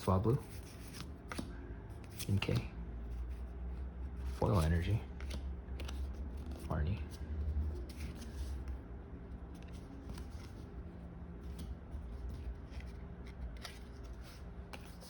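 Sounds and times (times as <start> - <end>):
steady low hum: 0.0 - 15.0
cards rustling and sliding: 0.2 - 15.0.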